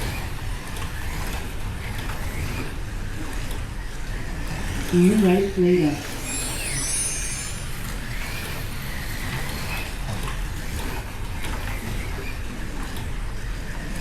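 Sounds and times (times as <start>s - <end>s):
slot cars racing on track: 0.0s - 14.0s.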